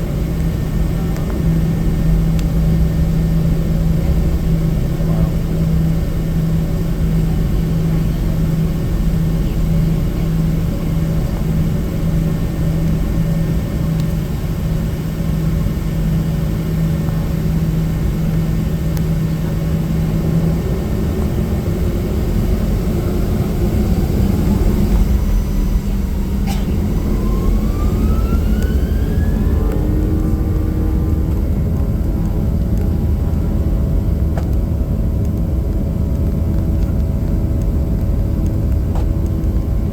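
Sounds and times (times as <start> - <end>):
airplane cabin rumble: 0.0 - 39.9
jet engines whining: 0.0 - 39.9.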